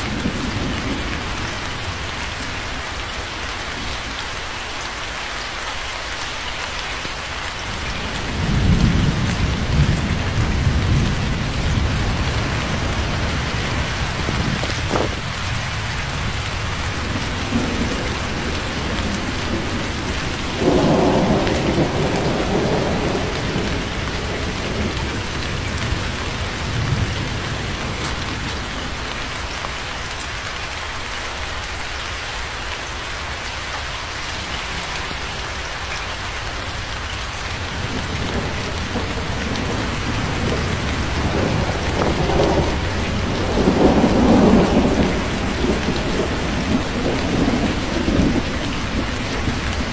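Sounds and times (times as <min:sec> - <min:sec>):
thunder rumbling: 0:00.0 - 0:03.0, 0:07.6 - 0:29.5, 0:34.2 - 0:49.9
heavy rain falling: 0:00.0 - 0:49.9.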